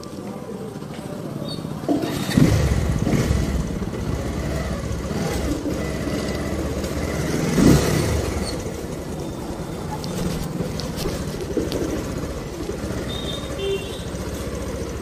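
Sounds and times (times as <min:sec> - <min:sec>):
motorcycle engine starting and revving: 0:01.5 - 0:15.0.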